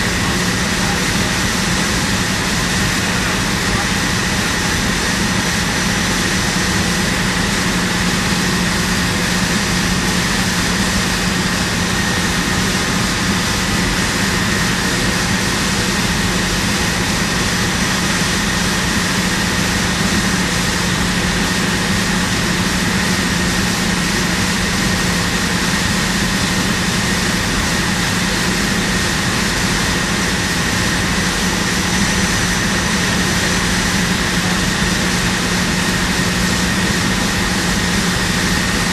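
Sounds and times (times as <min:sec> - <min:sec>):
industrial equipment drone: 0:00.0 - 0:38.9.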